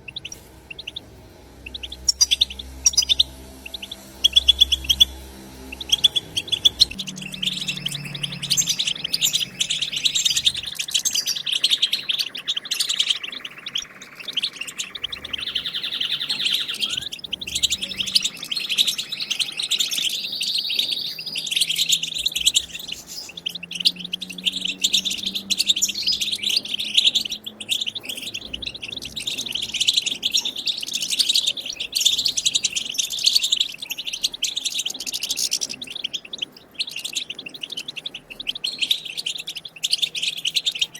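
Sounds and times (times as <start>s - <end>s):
goldfinches twittering and chattering: 0.0s - 40.9s.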